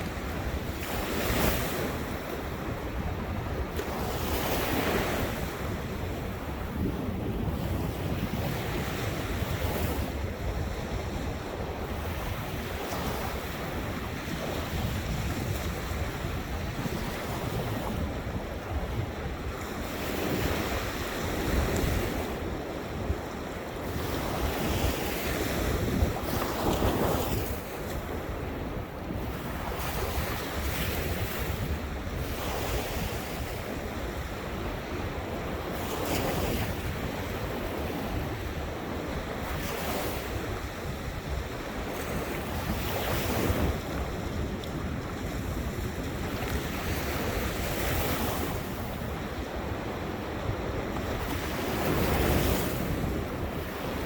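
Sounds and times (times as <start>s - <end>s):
ocean waves breaking: 0.0s - 54.0s
wind rumbling on microphone: 0.0s - 54.0s.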